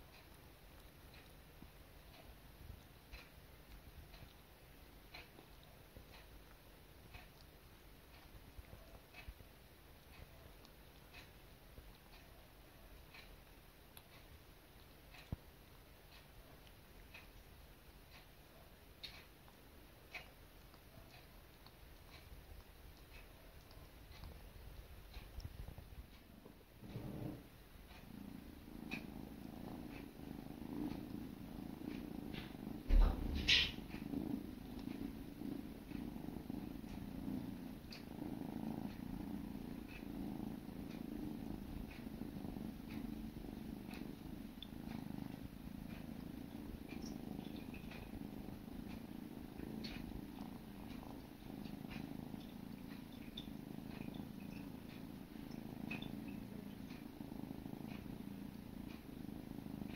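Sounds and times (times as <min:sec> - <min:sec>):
kittens purring: 0:00.0 - 0:59.9.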